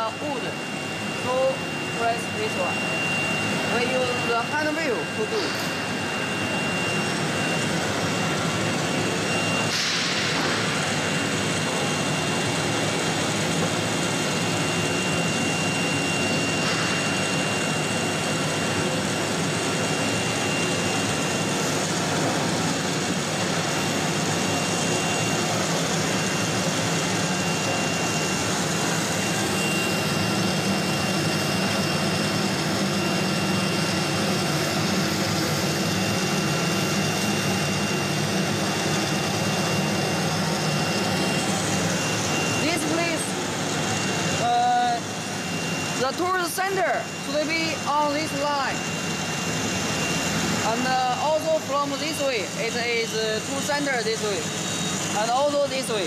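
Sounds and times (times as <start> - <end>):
thin high whine: 0.0 - 56.0
vacuum pump running: 0.0 - 56.0.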